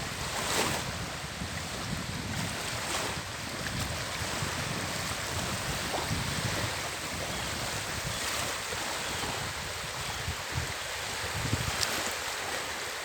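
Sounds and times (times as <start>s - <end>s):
sea waves washing ashore: 0.0s - 13.0s
wind rumbling on microphone: 0.0s - 13.0s.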